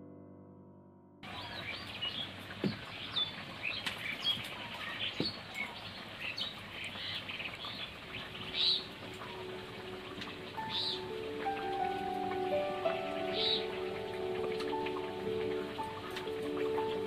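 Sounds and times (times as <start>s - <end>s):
small birds chirping: 1.2s - 17.0s
faint background hiss: 1.3s - 17.0s.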